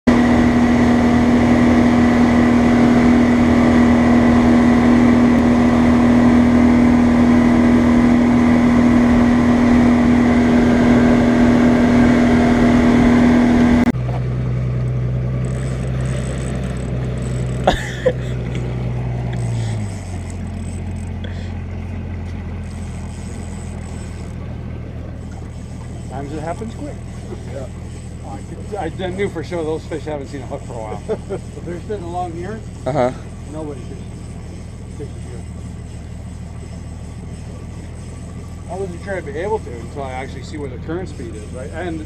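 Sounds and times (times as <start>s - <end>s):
boat motor running: 0.0s - 42.0s
engine drone throttling back: 0.0s - 42.0s.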